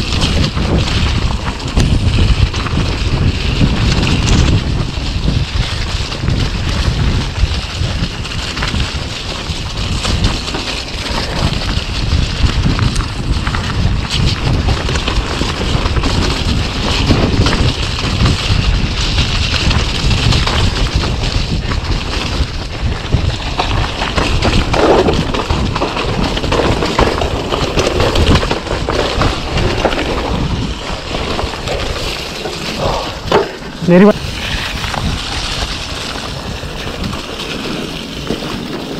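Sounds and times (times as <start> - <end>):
bike knocks and rattles: 0.0 - 38.9
tyres rumbling over ground: 0.0 - 38.9
wind buffeting microphone: 0.0 - 38.9.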